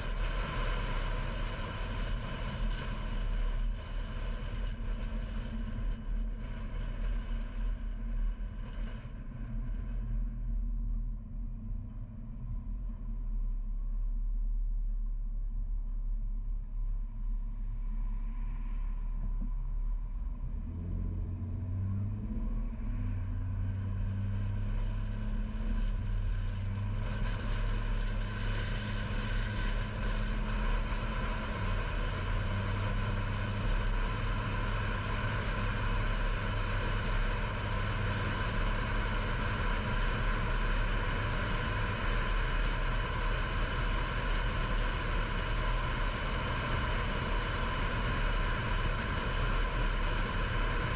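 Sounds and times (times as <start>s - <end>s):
car engine hum: 0.0s - 50.9s
deep rumble: 0.0s - 50.9s
road and tyre noise: 0.0s - 50.9s.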